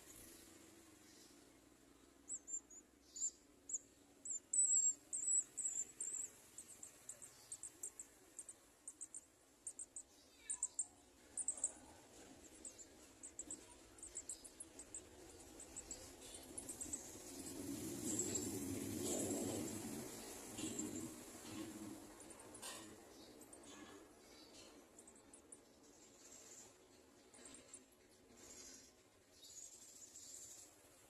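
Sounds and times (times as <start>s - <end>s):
birds high thin chirps: 0.0s - 31.0s.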